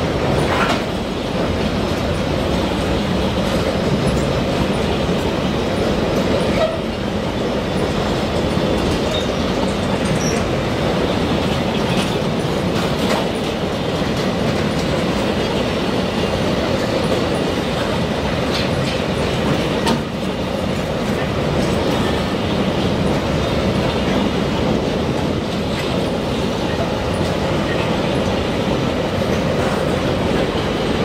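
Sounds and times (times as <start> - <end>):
freight train wheels rumbling: 0.0 - 31.0
train clank: 0.0 - 31.0
wheels clicking over rail joints: 0.2 - 31.0.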